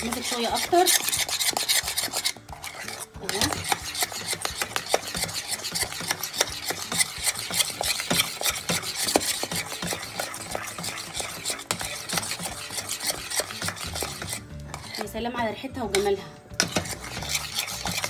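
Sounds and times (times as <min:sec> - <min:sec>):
spoon scraping a pot: 0:00.0 - 0:18.0.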